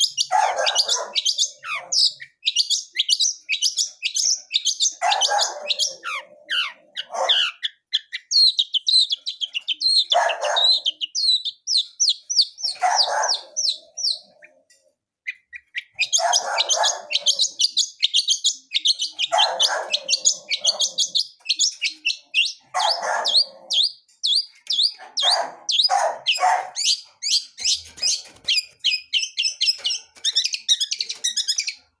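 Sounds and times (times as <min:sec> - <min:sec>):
bird twittering song: 0:00.0 - 0:32.0.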